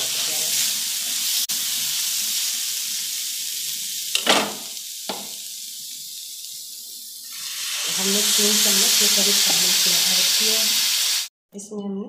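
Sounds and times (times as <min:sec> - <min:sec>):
food sizzling in hot oil: 0:00.0 - 0:11.3.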